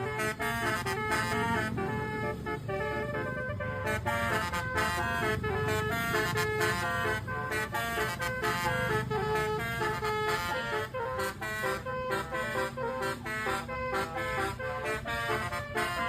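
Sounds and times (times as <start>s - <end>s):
multi-trumpet air horn melody: 0.0s - 16.0s.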